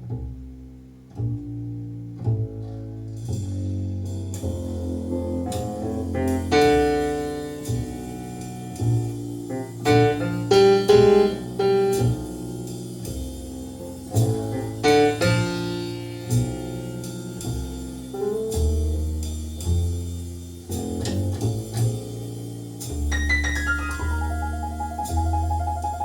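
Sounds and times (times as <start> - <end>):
jazz piano notes and chords: 0.0 - 26.0
low bass line: 0.0 - 26.0.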